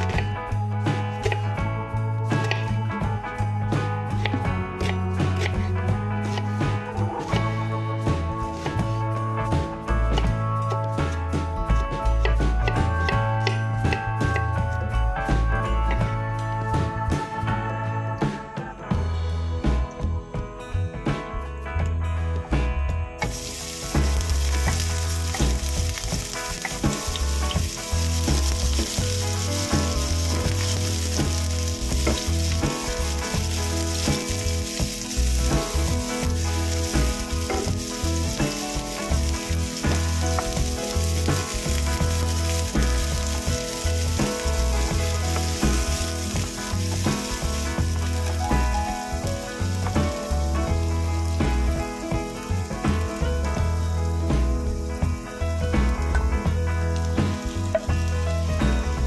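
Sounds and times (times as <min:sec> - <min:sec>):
onion sizzling in hot oil: 0:00.0 - 0:14.9, 0:23.2 - 0:59.0.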